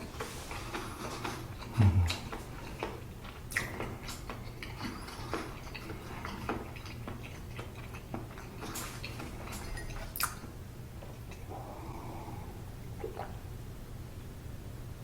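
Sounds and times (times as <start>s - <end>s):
chewing and wet mouth sounds: 0.0s - 13.5s.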